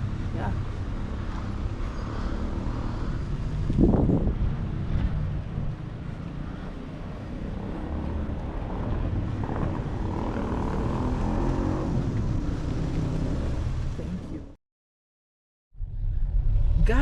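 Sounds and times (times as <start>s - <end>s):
motor vehicle rumbling: 0.0s - 14.6s, 15.8s - 17.0s.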